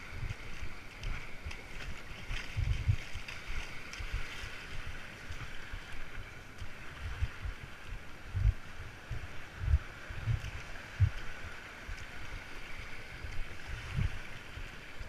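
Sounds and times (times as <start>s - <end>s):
small waves washing over sand: 0.0s - 15.0s
wind buffeting microphone: 0.0s - 15.0s.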